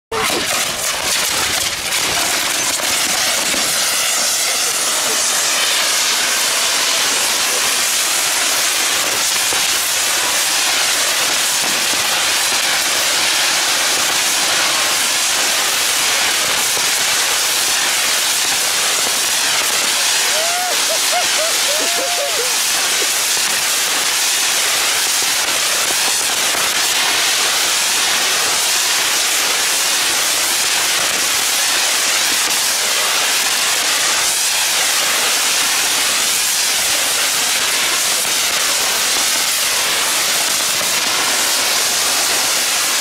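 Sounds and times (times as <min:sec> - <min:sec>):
fireworks hissing and crackling: 0:00.1 - 0:43.0.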